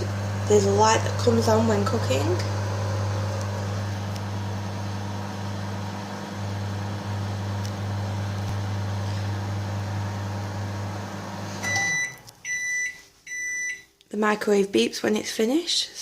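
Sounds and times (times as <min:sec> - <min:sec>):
microwave oven humming: 0:00.0 - 0:12.8.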